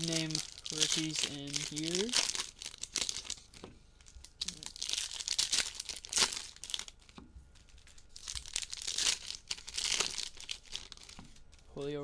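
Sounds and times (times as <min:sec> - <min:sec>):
plastic packaging crinkling and tearing: 0:00.0 - 0:11.9.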